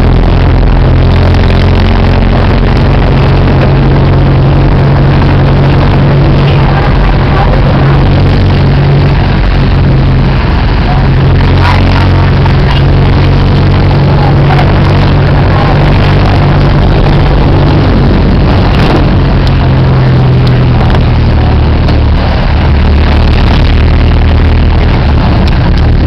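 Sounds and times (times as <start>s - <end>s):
road and traffic noise: 0.0s - 26.0s
vehicle engine running: 0.0s - 26.0s.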